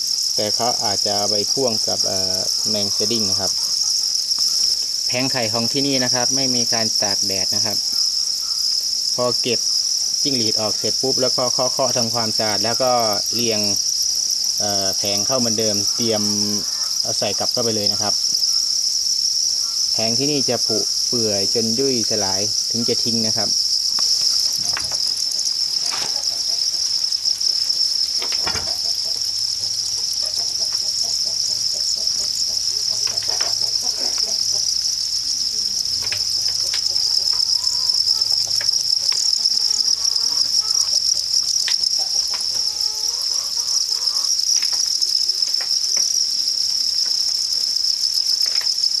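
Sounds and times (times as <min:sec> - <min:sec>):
crickets chirping: 0:00.0 - 0:49.0.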